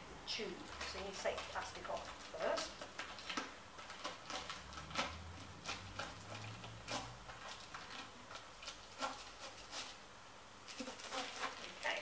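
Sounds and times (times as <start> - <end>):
plastic wrapping crinkling: 0.5 - 10.0, 10.6 - 12.0.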